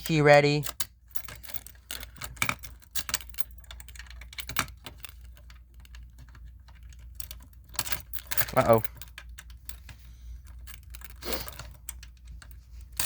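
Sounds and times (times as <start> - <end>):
metal keys jangling: 0.0 - 13.0.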